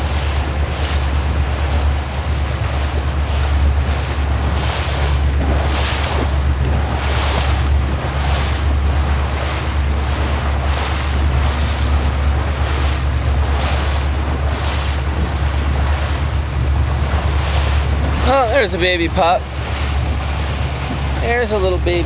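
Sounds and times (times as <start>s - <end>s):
motorboat running: 0.0s - 22.0s
water washing against hull: 0.0s - 22.0s
wind on microphone: 0.0s - 22.0s.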